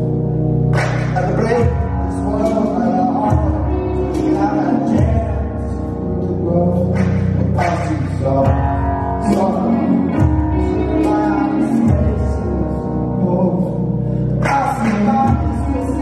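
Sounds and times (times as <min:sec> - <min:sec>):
live band music: 0:00.0 - 0:16.0
man singing into microphone: 0:01.2 - 0:16.0.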